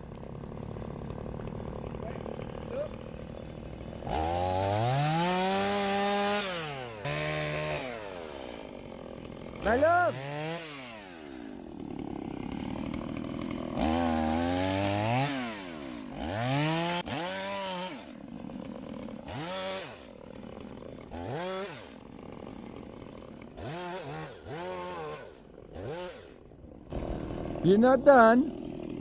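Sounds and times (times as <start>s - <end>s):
chainsaw engine revving: 0.0s - 29.0s.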